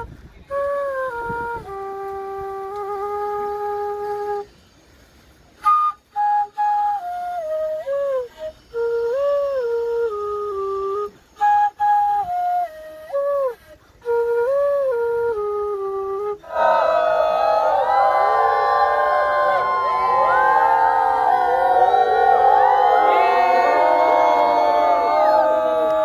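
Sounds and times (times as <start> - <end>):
solo flute melody: 0.0 - 4.7, 5.5 - 26.0.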